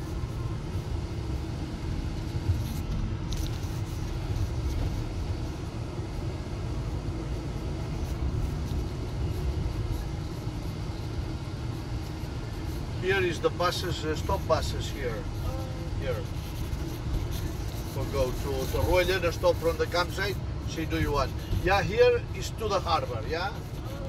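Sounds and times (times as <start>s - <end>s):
vehicle rumble from inside cabin: 0.0s - 24.0s.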